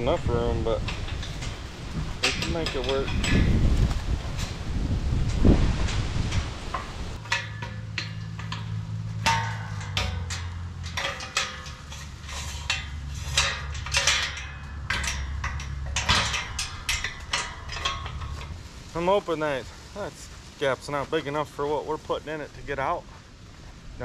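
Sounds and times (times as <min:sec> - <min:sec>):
metal gate rattling: 0:00.0 - 0:04.6, 0:05.2 - 0:20.1
low steady hum: 0:00.0 - 0:24.0.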